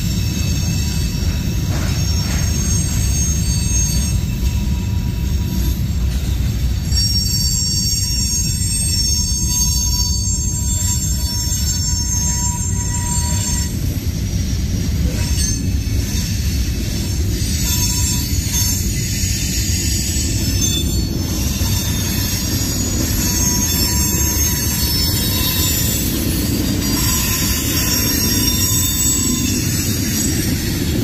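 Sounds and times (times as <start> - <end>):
freight train wheels rumbling on rail: 0.0 - 31.0
high wheel squealing: 0.0 - 31.0.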